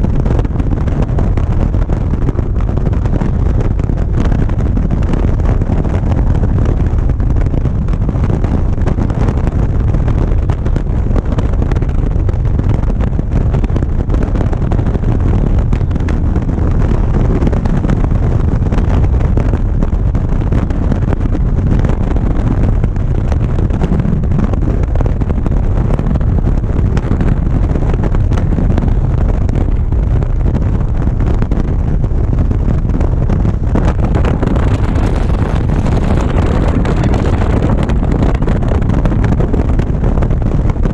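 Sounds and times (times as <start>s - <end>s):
motorcycle cruising: 0.0s - 40.9s
wind rushing over microphone: 0.0s - 40.9s.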